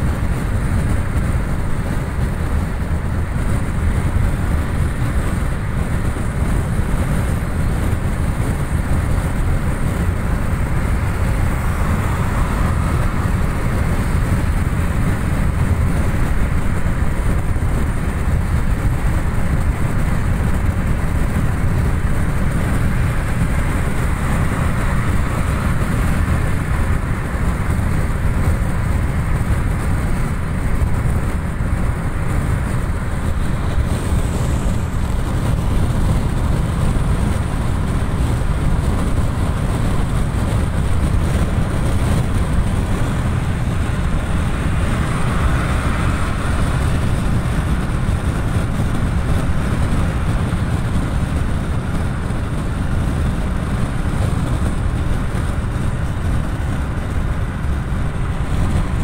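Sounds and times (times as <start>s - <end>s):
tyre and engine rumble: 0.0s - 59.0s.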